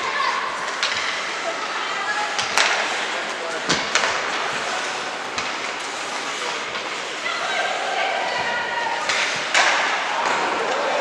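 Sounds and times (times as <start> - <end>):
game play and crowd noise: 0.0 - 11.0.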